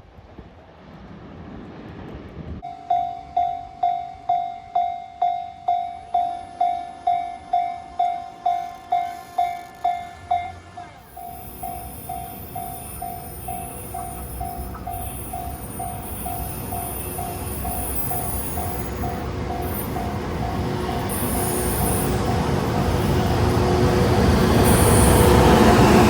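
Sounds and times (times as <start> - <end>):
train running: 0.0 - 26.0
level crossing warning bell: 2.6 - 25.8.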